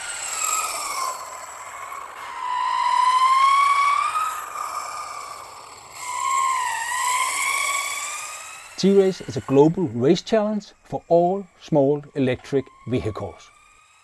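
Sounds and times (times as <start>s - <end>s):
wheels rolling on asphalt: 0.0s - 10.9s, 12.4s - 14.0s
electric skateboard motors whining: 0.0s - 14.0s.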